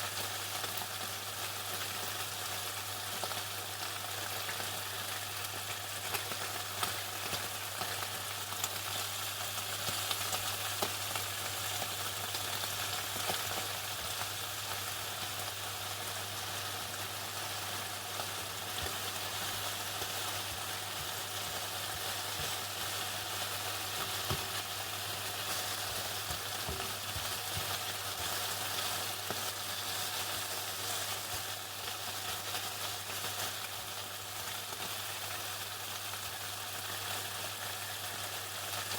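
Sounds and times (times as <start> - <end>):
chicken sizzling in hot oil: 0.0 - 38.9.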